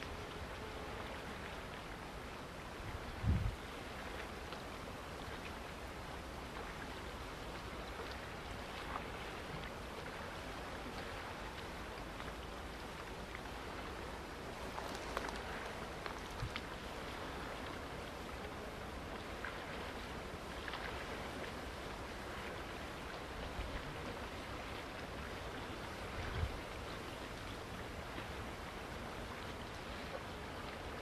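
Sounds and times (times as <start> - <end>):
choppy water lapping: 0.0 - 31.0
wind: 0.0 - 31.0.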